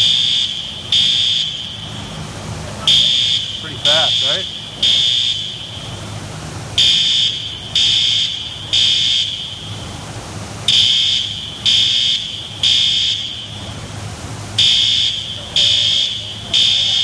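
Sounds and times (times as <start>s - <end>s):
fire alarm high beeps: 0.0s - 2.2s, 2.8s - 5.9s, 6.8s - 9.9s, 10.7s - 13.7s, 14.6s - 17.0s.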